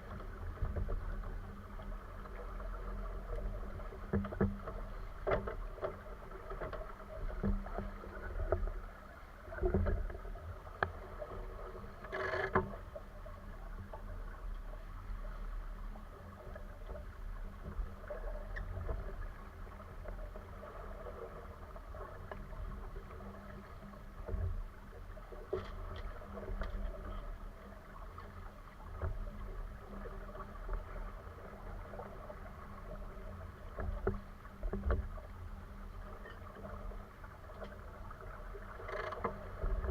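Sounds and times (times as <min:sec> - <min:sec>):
sailboat low rumble: 0:00.0 - 0:39.9
water on hull: 0:00.0 - 0:39.9.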